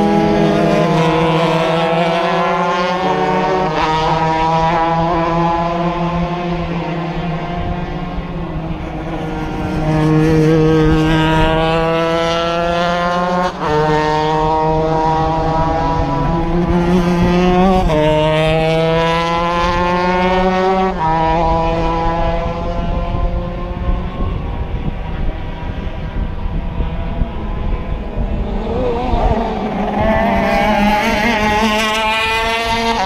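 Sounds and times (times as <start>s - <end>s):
kart engine accelerating: 0.0s - 33.0s.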